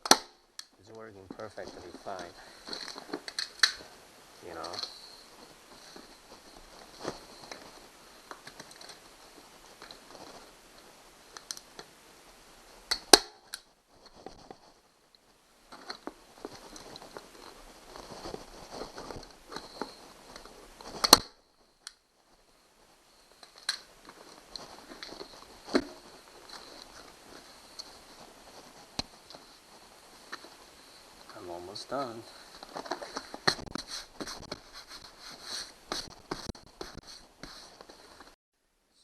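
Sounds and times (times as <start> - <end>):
vinyl rustling and handling: 0.0 - 38.4.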